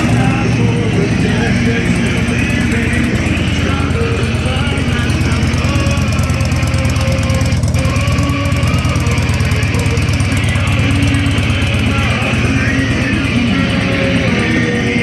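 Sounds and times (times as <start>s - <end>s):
motorcycle engine idling: 0.0s - 15.0s
music from motorcycle speakers: 0.0s - 15.0s.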